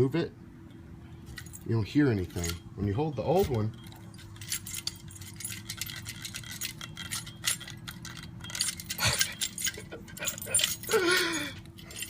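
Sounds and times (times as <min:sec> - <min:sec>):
metallic clicking and rattling: 0:01.3 - 0:02.6, 0:03.2 - 0:12.0.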